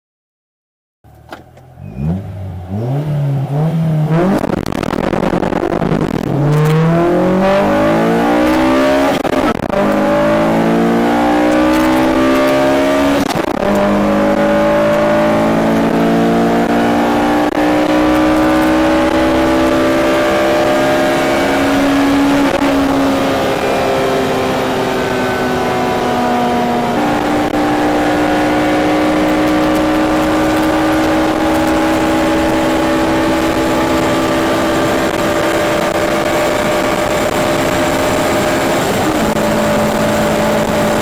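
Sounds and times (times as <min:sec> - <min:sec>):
car engine accelerating hard: 0:01.1 - 0:41.0.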